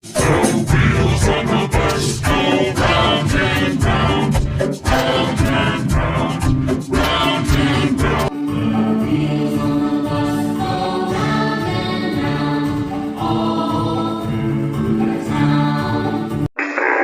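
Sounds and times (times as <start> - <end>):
children's song with beat: 0.0 - 16.5.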